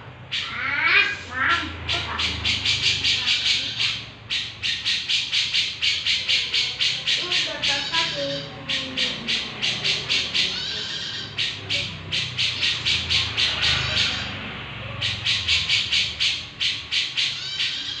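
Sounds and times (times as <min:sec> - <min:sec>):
bird chattering calls: 0:00.2 - 0:18.0.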